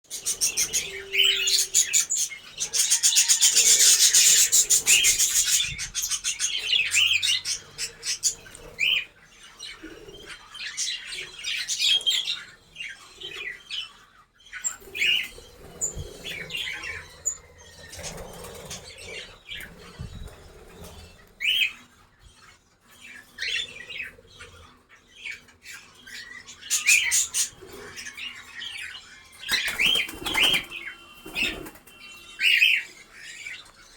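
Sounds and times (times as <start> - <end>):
parrots chirping and squawking: 0.1 - 33.9.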